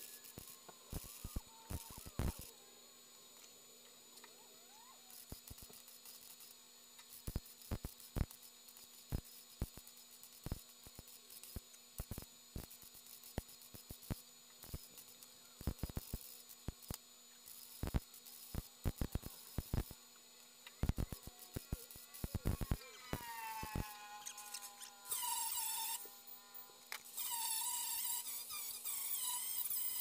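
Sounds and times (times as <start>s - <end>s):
welding arc sputtering crackles: 0.0s - 2.5s, 4.9s - 20.0s, 20.7s - 30.0s.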